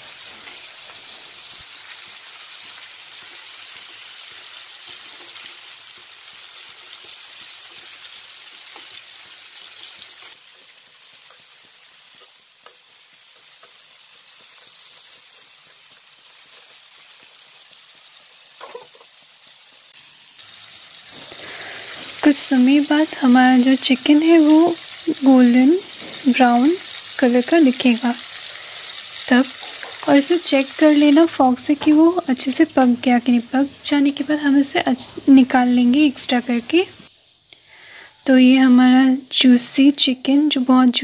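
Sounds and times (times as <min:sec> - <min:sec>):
chicken sizzling in a pan: 0:00.0 - 0:41.0.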